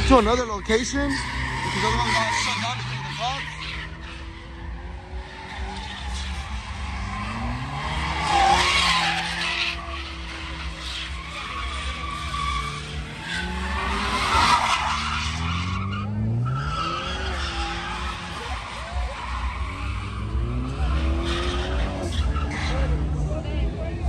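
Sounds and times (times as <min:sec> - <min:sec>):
tyres screeching: 0:00.0 - 0:23.2
car engine revving: 0:00.0 - 0:24.0.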